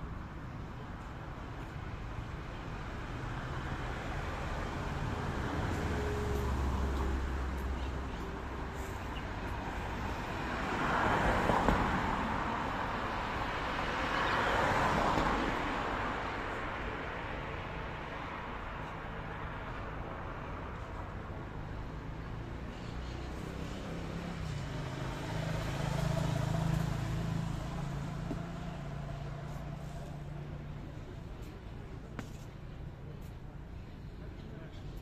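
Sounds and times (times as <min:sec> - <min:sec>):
vehicles going by: 0:00.0 - 0:35.0.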